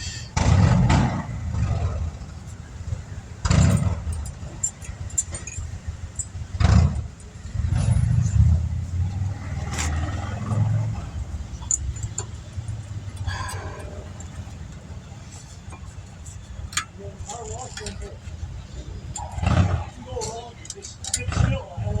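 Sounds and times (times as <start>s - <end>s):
low rumble: 0.0s - 20.1s
metal clinks of brake hardware: 3.4s - 21.6s.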